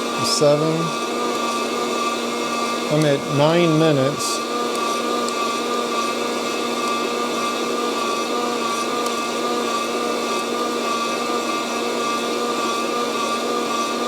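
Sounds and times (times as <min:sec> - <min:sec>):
coffee roaster fan whirring: 0:00.0 - 0:14.0.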